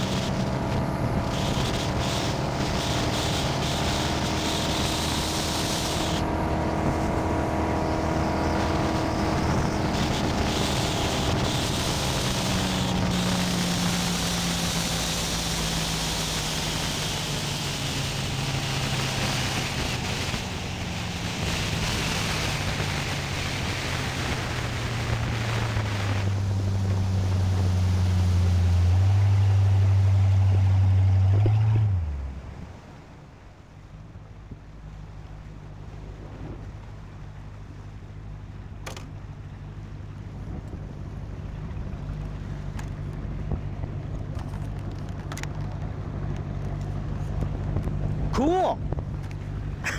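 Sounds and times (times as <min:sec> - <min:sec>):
motorboat engine running: 0:00.0 - 0:49.9
water rushing: 0:00.0 - 0:49.9.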